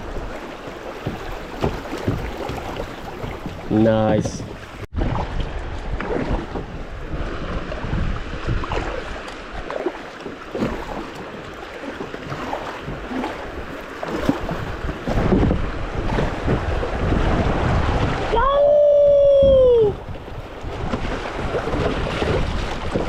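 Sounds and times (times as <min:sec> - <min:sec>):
wind buffeting microphone: 0:00.0 - 0:10.0, 0:10.6 - 0:23.0
creek water splashing and rushing: 0:00.0 - 0:23.0.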